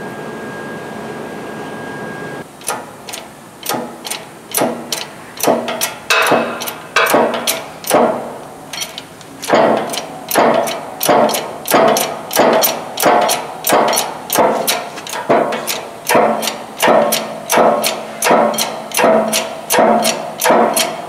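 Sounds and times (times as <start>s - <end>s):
hydraulic press pump clacking: 2.6s - 21.0s.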